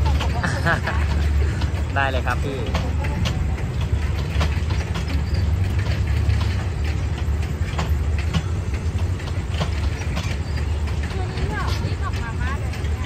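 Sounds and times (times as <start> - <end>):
train coaches rolling past: 0.0 - 13.0
wheels clacking on rails: 0.0 - 13.0.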